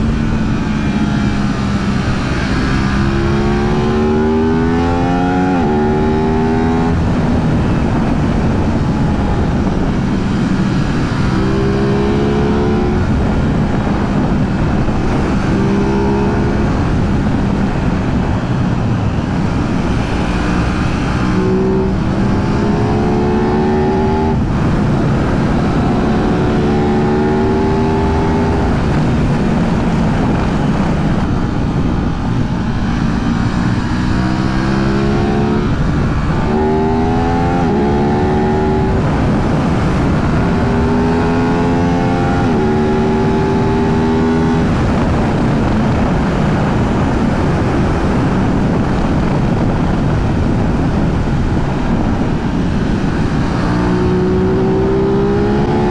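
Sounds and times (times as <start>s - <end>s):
motorcycle engine accelerating: 0.0s - 55.9s
riding wind rushing: 0.0s - 55.9s.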